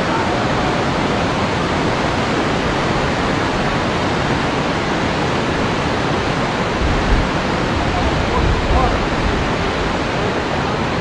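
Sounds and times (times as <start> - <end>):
water rushing from dam gates: 0.0 - 11.0.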